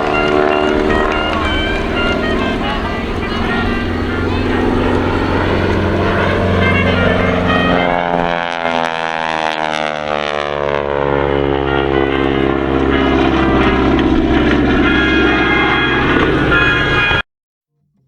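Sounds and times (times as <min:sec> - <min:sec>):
propeller airplane flying past: 0:00.0 - 0:17.2.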